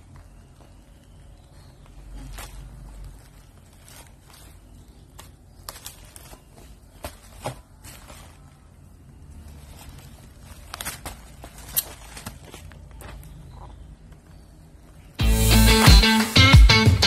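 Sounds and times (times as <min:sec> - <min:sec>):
low rumble of handling noise: 0:00.0 - 0:15.2.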